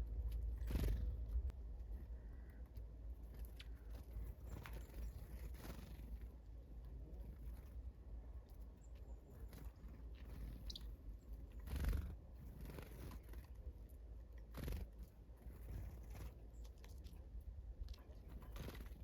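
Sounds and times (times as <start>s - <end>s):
birds pecking at food: 0.0s - 19.0s.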